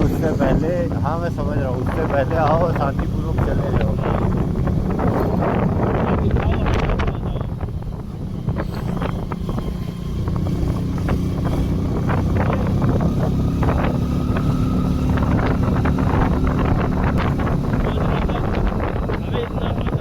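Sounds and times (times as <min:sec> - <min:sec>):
vehicle engine running: 0:00.0 - 0:20.0
wind buffeting microphone: 0:00.0 - 0:20.0.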